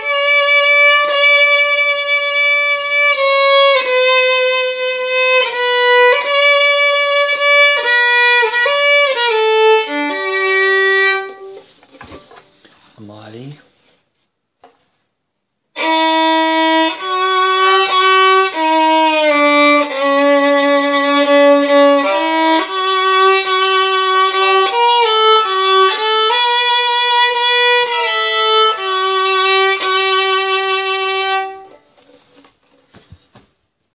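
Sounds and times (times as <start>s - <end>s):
bowed violin melody: 0.0s - 11.7s, 15.7s - 32.2s.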